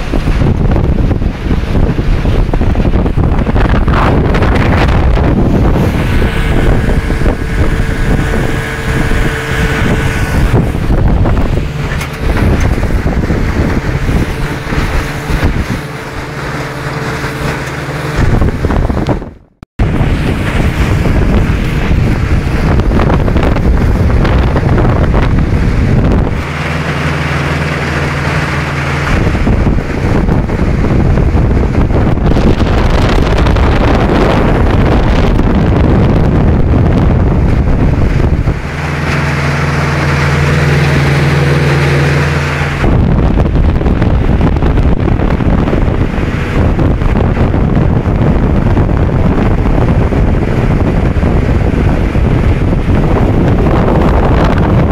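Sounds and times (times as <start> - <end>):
outboard motor droning: 0.0 - 54.9
wind buffeting microphone: 0.0 - 54.9.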